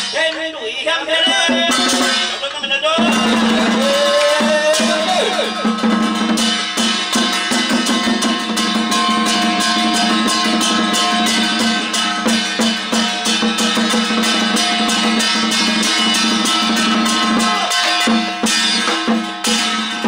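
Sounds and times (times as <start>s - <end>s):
drums beaten in fast strokes: 0.0s - 0.4s, 1.0s - 20.0s.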